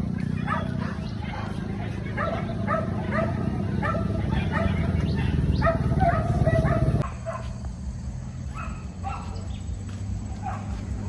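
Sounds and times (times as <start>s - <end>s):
hunting dogs barking and yipping: 0.0s - 7.7s, 8.3s - 11.0s.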